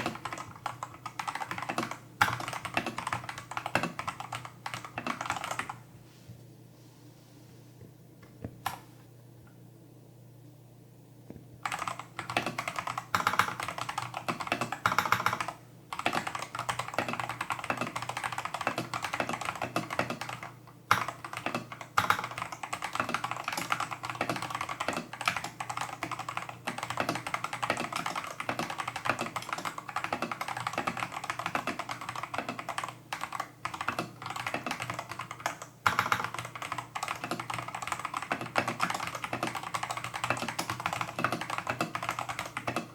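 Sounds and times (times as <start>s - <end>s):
fast typing on mechanical keyboard: 0.0s - 5.8s, 11.6s - 42.9s.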